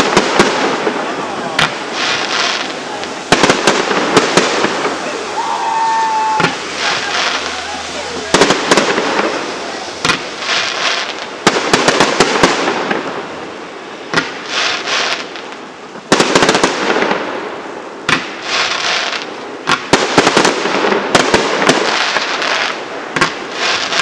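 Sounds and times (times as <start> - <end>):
firework shells bursting with bangs: 0.0 - 5.2, 6.3 - 13.3, 14.1 - 17.4, 18.0 - 24.0
firework crackling: 0.0 - 24.0.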